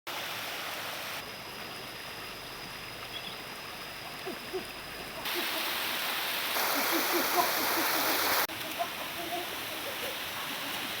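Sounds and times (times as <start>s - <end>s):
flowing water rushing: 0.1s - 11.0s.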